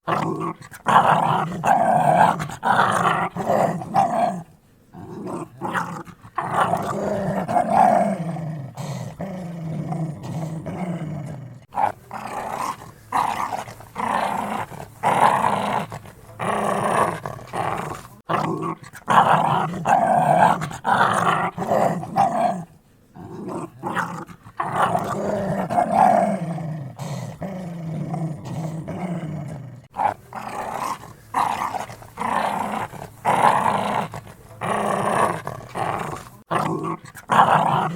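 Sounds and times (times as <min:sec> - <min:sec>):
dogs growling: 0:00.0 - 0:37.9.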